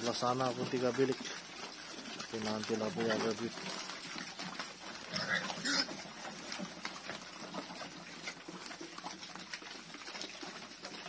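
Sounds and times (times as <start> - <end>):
pigs slurping and chewing feed: 0.0 - 11.0.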